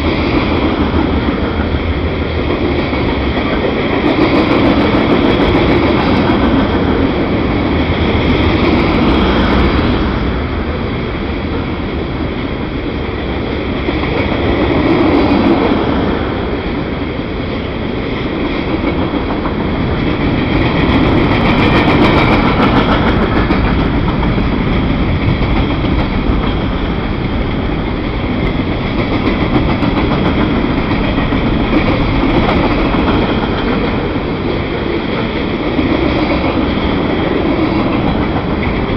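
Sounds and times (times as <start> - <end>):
sharp clicks of train wheels: 0.0 - 38.9
train wheels rumbling on rail: 0.0 - 38.9.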